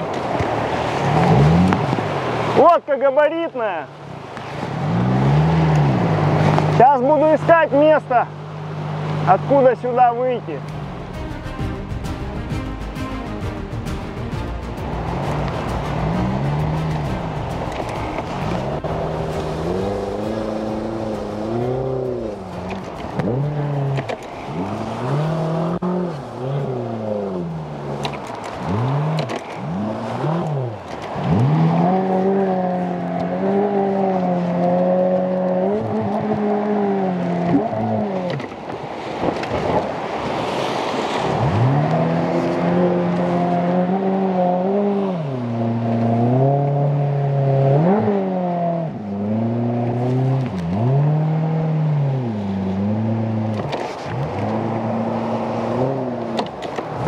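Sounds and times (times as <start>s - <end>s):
outboard motor revving: 0.0s - 57.0s.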